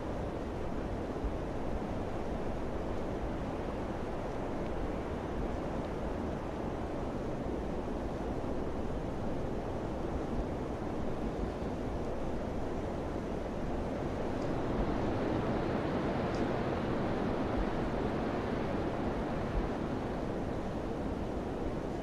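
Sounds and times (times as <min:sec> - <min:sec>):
wind blowing steadily: 0:00.0 - 0:22.0.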